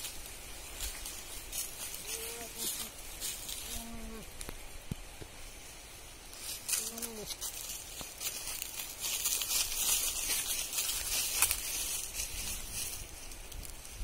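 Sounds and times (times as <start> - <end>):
goats crunching and ripping fruit: 0.0 - 4.6, 6.4 - 14.0.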